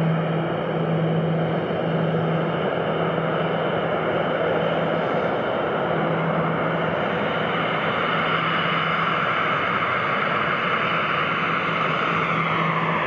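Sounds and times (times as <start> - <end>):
jet engines at taxi power: 0.0 - 13.0.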